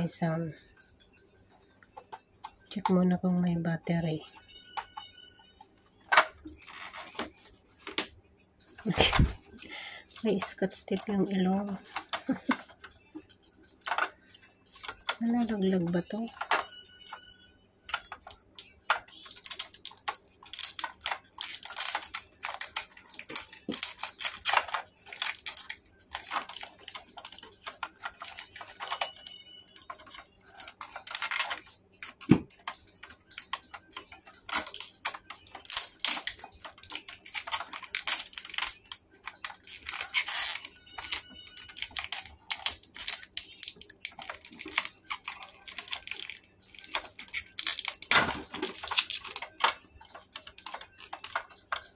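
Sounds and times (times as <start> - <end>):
plastic wrap crinkling: 8.8 - 17.3, 17.9 - 51.9.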